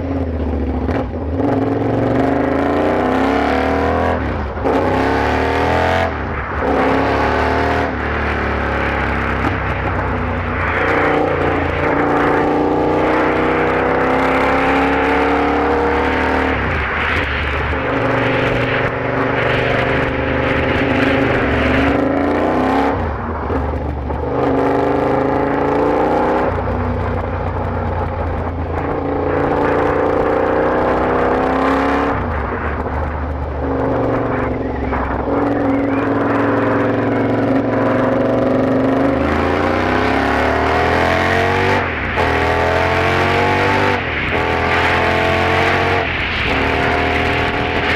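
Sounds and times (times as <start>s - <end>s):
motorcycle engine accelerating hard: 0.0s - 47.9s.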